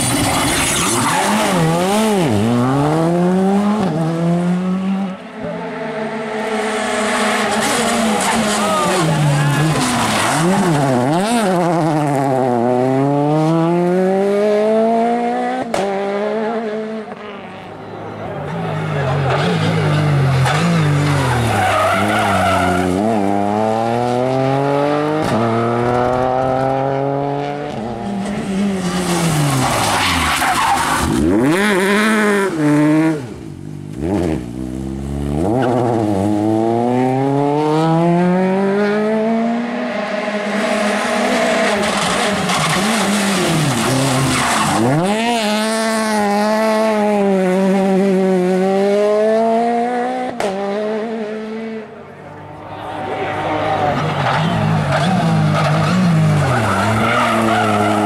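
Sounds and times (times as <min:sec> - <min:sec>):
rally car engines accelerating: 0:00.0 - 0:58.0.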